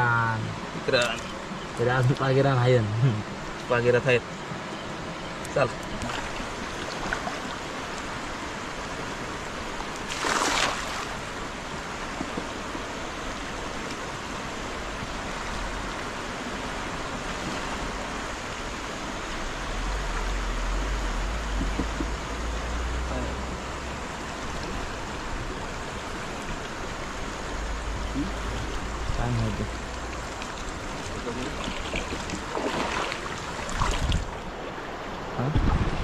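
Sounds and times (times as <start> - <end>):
flowing river water: 0.0 - 36.0.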